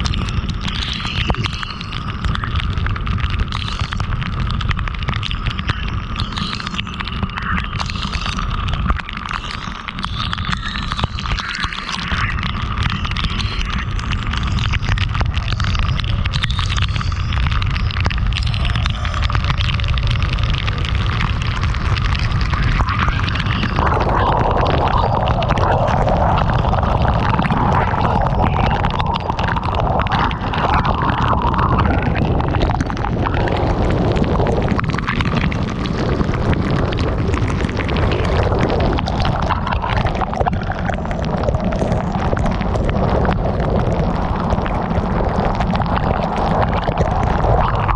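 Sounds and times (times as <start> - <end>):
heavy rain on a car: 0.0 - 47.9
low wind rumble: 0.0 - 47.9.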